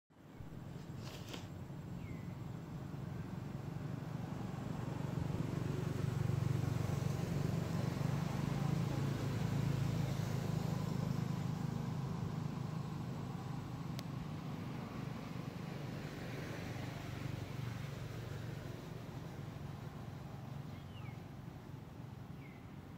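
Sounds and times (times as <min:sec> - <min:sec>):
vehicle engine rumble: 0:00.2 - 0:22.9.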